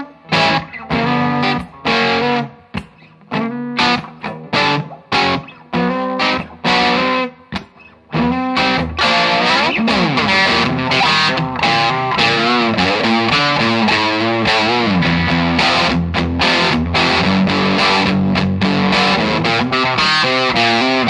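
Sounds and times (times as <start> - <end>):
electric guitar bending notes: 0.0 - 21.0
electric guitar chord stabs: 0.0 - 21.0.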